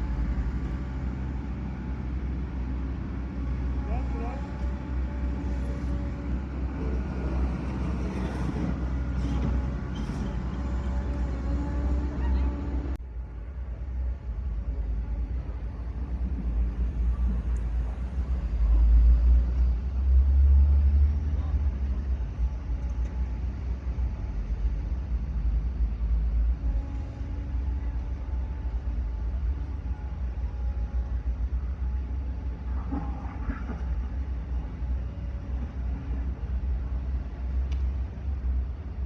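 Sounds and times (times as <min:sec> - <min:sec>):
heavy machine engine rumbling: 0:00.0 - 0:39.0.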